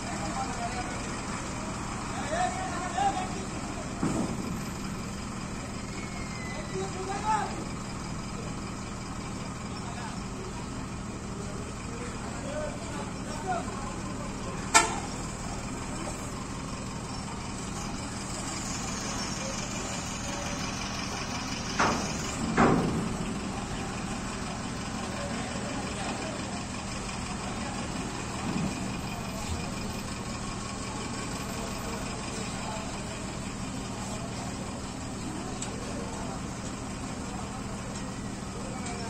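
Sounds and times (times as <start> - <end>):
idling truck engines: 0.0 - 39.0.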